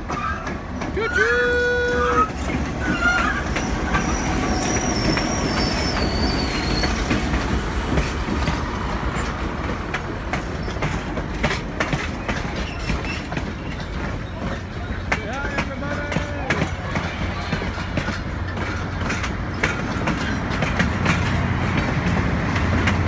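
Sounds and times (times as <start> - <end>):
train wheels squealing: 0.0 - 15.2, 16.2 - 21.9
train rumble: 0.0 - 23.0
wheels clicking over rail joints: 0.0 - 23.0.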